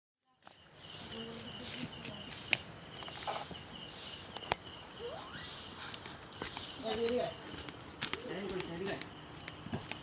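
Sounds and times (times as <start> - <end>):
crickets chirring: 0.2 - 10.0.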